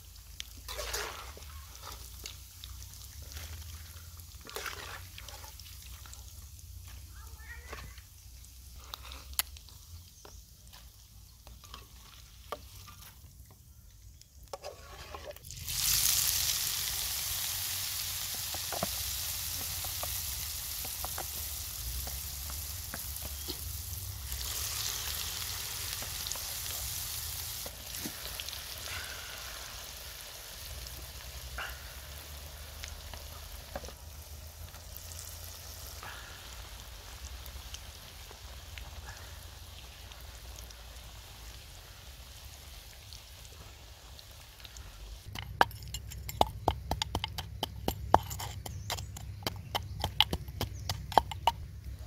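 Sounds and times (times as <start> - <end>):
food deep-frying in oil: 0.0 - 13.4, 14.0 - 47.4.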